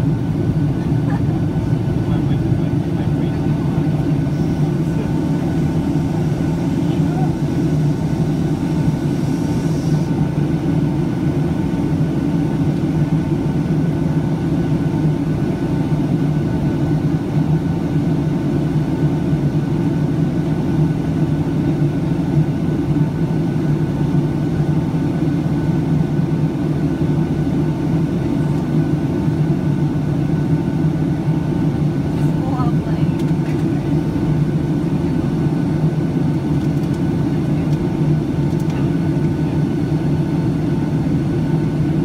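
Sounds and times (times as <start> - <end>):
jet engine and airflow rumble: 0.0 - 42.0.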